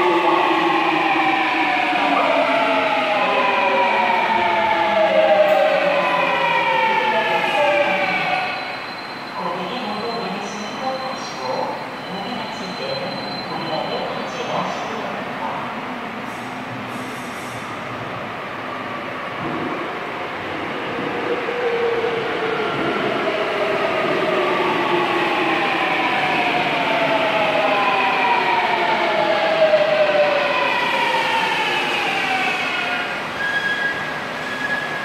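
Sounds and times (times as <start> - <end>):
subway train running noise: 0.0 - 35.0.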